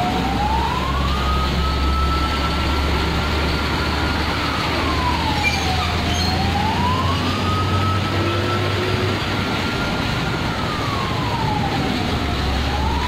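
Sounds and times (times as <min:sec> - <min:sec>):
road and engine noise: 0:00.0 - 0:13.0
siren wailing: 0:00.0 - 0:13.0.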